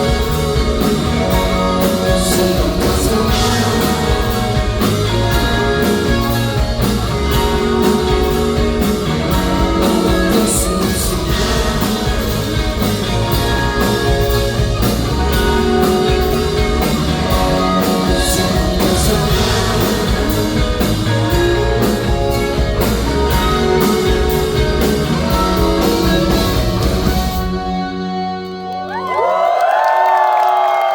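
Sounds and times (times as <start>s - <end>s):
drum kit beat: 0.0s - 28.1s
electric guitars: 0.0s - 30.9s.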